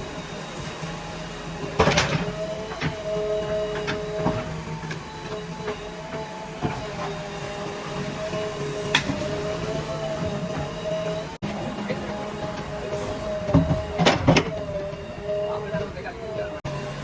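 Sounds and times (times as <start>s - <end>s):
diesel engine under load: 0.0s - 17.0s
hydraulic whine: 0.0s - 17.0s.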